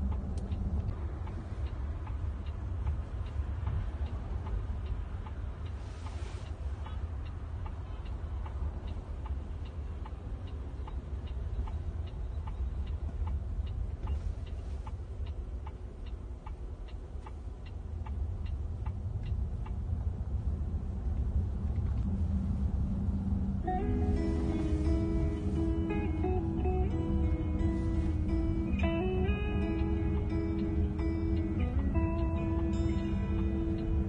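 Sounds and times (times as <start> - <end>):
road and cabin rumble: 0.0 - 34.0
turn signal ticking: 0.0 - 34.0.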